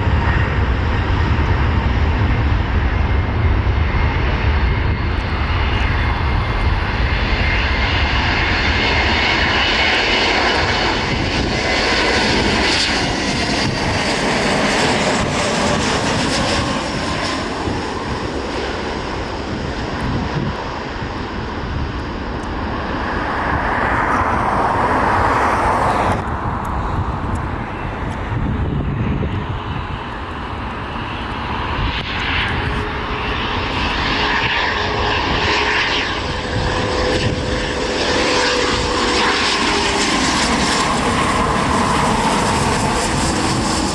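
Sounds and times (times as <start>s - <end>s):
jet engines passing overhead: 0.0s - 43.9s.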